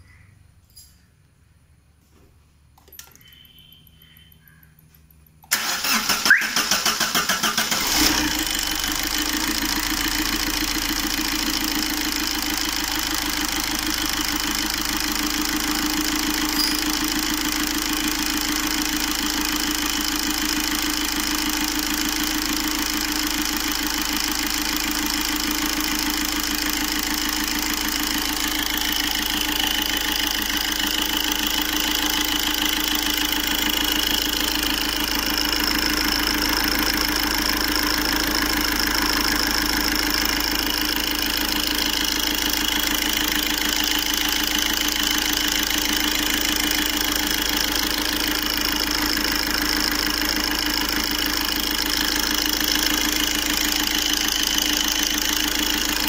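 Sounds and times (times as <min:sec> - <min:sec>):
diesel engine idling: 0:05.5 - 0:56.0.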